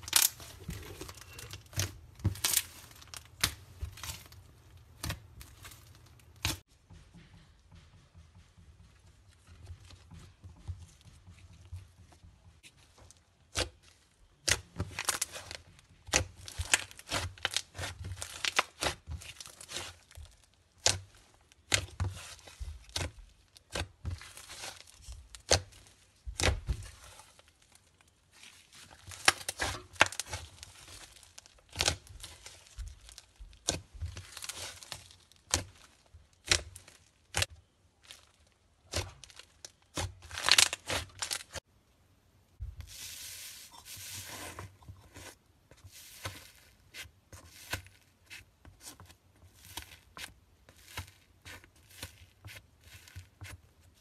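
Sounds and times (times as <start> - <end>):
hands kneading slime: 8.4 - 41.7, 42.6 - 54.0.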